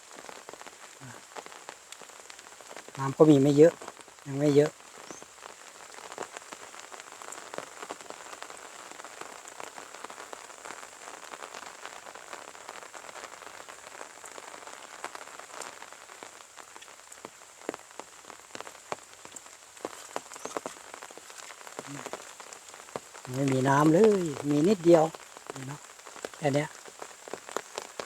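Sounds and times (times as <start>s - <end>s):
raindrops ticking close by: 0.0s - 28.0s
steady rain falling: 0.0s - 28.0s.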